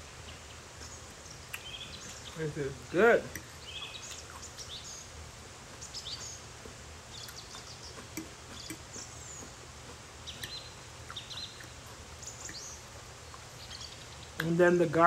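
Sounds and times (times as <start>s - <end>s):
small birds chirping faintly: 0.0s - 15.0s
steady low hum: 0.0s - 15.0s.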